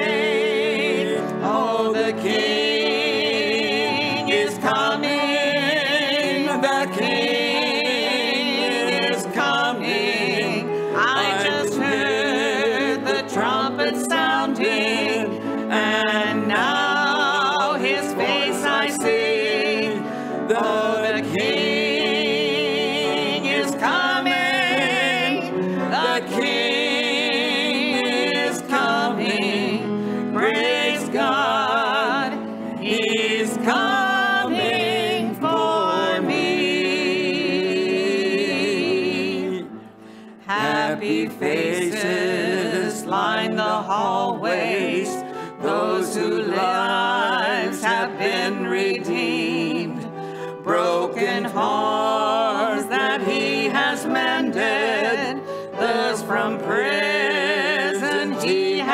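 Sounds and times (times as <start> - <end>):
voices singing a hymn: 0.0 - 58.9.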